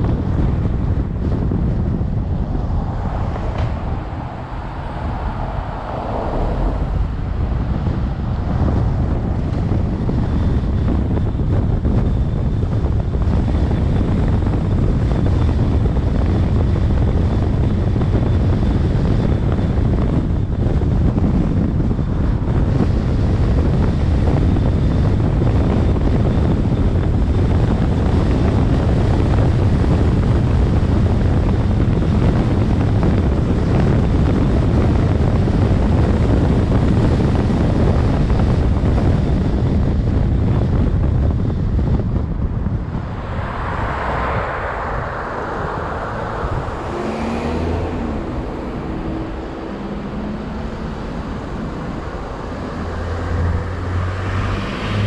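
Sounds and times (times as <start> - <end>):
car road noise: 0.0 - 55.0
wind on microphone: 0.0 - 55.0.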